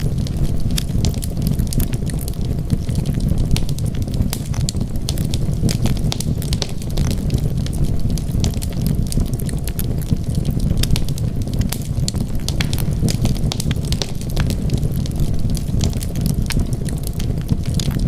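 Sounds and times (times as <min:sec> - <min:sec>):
low rumble of burning: 0:00.0 - 0:18.0
wood fire popping: 0:00.0 - 0:18.0.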